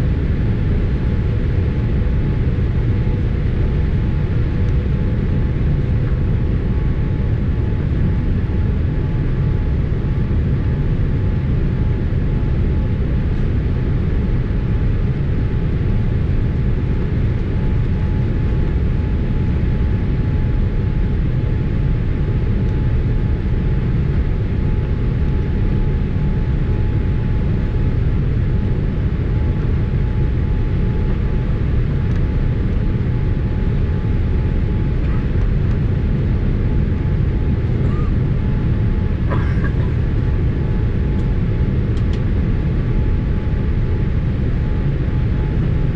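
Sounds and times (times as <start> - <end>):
engine and airflow rumble: 0.0 - 45.9.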